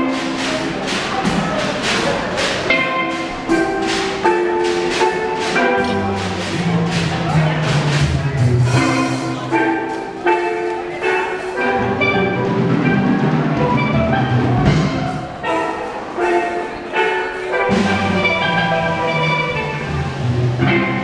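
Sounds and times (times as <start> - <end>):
steelpans ringing notes: 0.0 - 21.0.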